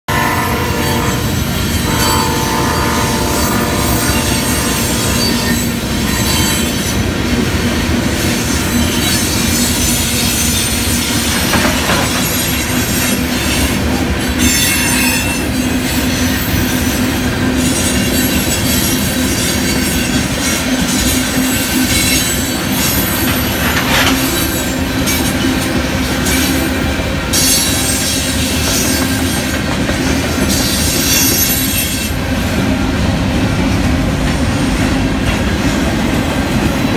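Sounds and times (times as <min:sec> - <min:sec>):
train wheels rumbling on rails: 0:00.1 - 0:36.9.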